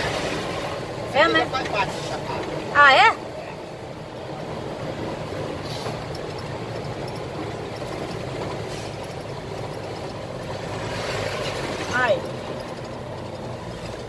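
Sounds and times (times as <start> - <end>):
road noise: 0.0 - 14.0
truck diesel engine drone: 0.0 - 14.0.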